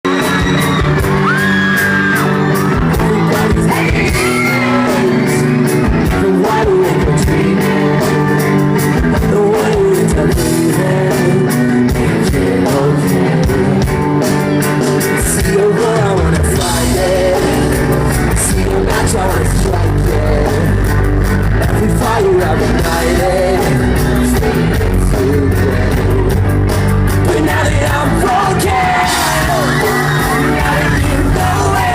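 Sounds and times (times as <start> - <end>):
drums: 0.0 - 31.9
person singing: 0.1 - 20.9, 21.6 - 26.6, 27.2 - 31.9
electric guitars: 0.1 - 31.9.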